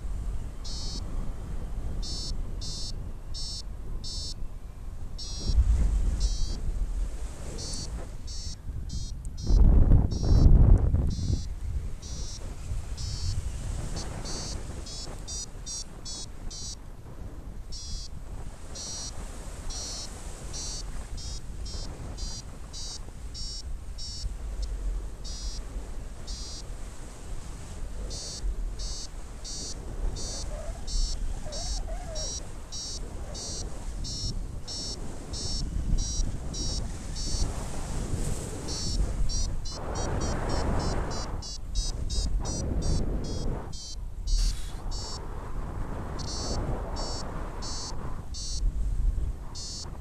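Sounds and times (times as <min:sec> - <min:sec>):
wind on microphone: 0:00.0 - 0:50.0
variometer short high beeps: 0:00.6 - 0:01.1, 0:02.0 - 0:04.4, 0:05.2 - 0:05.6, 0:06.2 - 0:06.6, 0:07.6 - 0:16.8, 0:17.7 - 0:25.7, 0:26.3 - 0:26.7, 0:28.0 - 0:37.5, 0:38.6 - 0:45.2, 0:46.2 - 0:48.7, 0:49.6 - 0:50.0.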